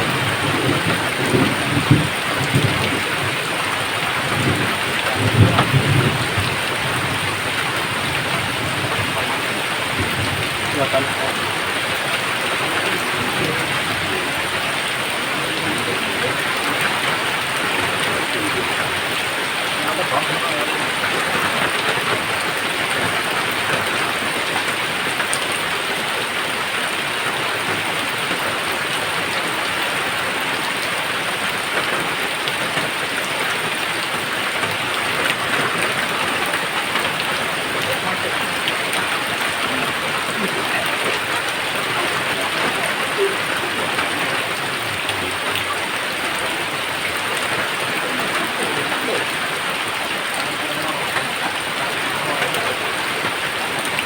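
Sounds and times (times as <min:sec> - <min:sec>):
heavy rain on hard surface: 0:00.0 - 0:54.0.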